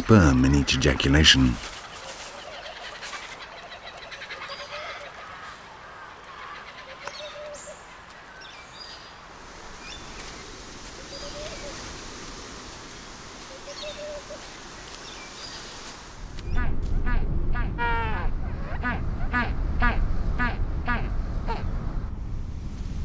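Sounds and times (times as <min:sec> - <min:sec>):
birds calling: 0:00.0 - 0:21.8
outdoor ambience hiss: 0:00.0 - 0:23.0.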